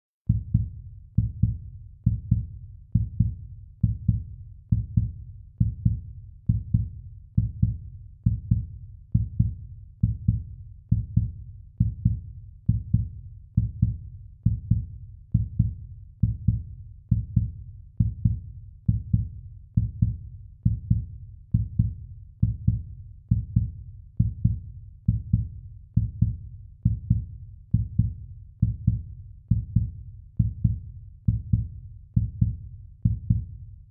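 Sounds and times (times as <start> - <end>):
heartbeat thuds: 0.3 - 33.9.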